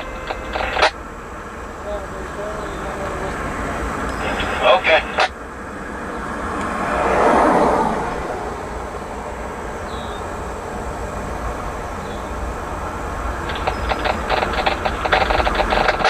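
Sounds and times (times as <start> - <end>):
road traffic rumble: 0.0 - 16.0
vehicle passing: 0.0 - 16.0.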